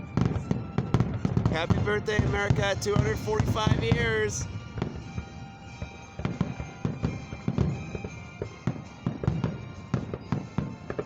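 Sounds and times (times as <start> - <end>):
fireworks booming and cracking: 0.0 - 11.0.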